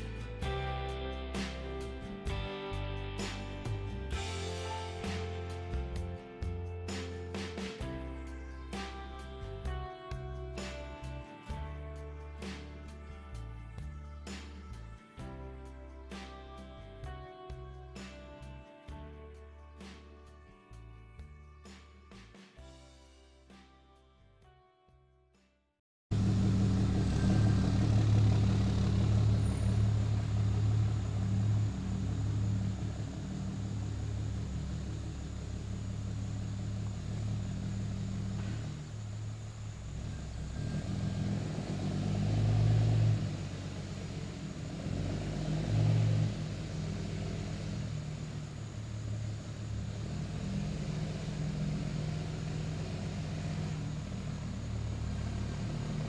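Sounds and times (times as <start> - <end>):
vehicle engine hum and road noise: 0.0 - 22.7, 26.1 - 56.0.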